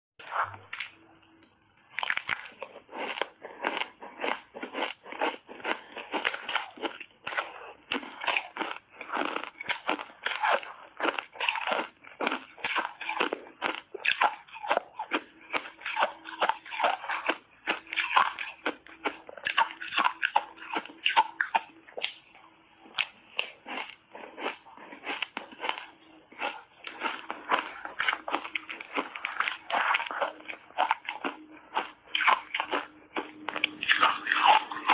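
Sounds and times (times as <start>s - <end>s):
crunching of ice being chewed: 0.2s - 34.9s.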